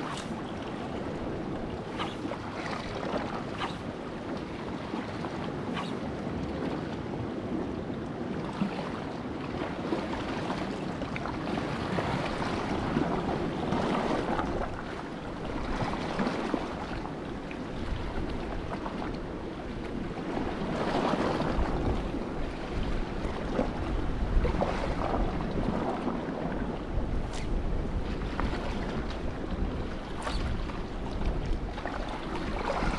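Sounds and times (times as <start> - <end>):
wind buffeting microphone: 0.0 - 7.6, 10.7 - 32.9
sea waves washing on shore: 0.0 - 32.9.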